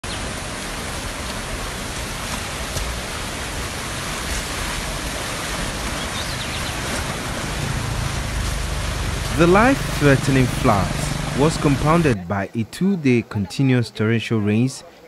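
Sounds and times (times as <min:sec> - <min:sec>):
floodwater rushing: 0:00.0 - 0:12.3.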